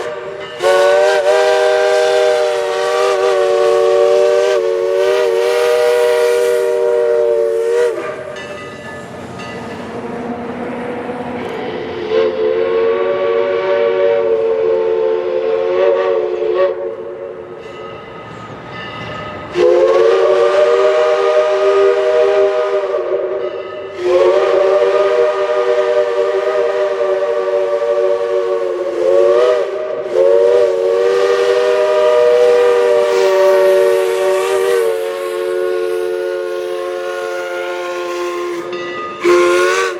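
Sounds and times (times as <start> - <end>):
steam locomotive whistle: 0.0 - 8.6, 11.3 - 18.6, 19.5 - 39.9.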